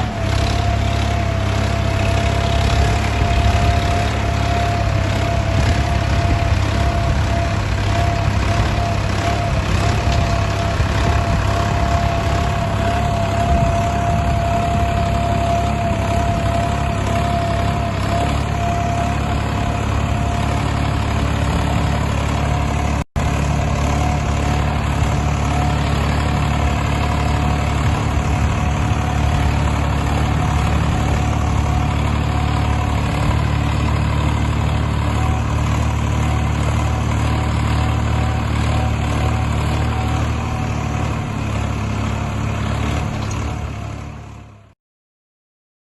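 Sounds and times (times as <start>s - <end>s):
tractor engine running: 0.0s - 44.7s.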